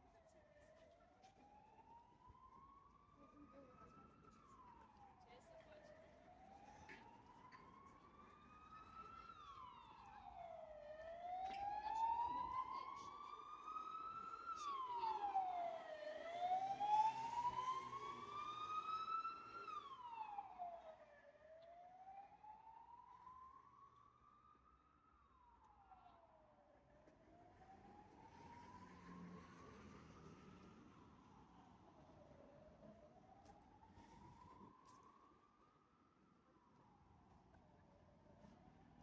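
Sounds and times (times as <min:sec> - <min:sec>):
emergency siren wailing: 0:00.0 - 0:39.0.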